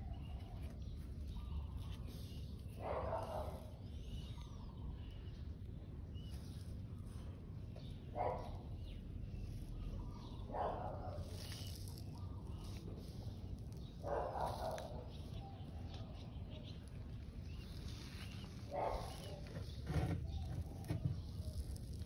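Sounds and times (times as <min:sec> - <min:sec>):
low steady background rumble: 0:00.0 - 0:22.0.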